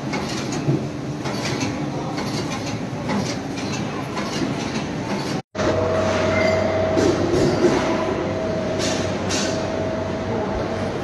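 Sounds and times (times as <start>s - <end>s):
kitchen machinery clattering: 0.0s - 9.8s.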